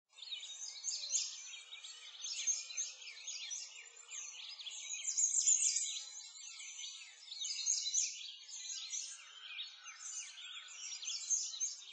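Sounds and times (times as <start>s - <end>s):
small birds chirping: 0.1s - 11.9s.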